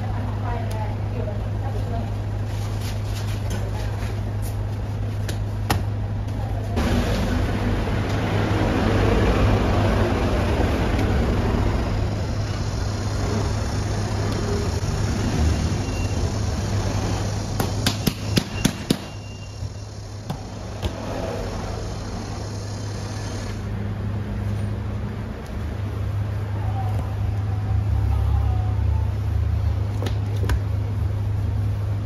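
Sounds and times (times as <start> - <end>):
low machine hum and rushing: 0.0 - 32.0.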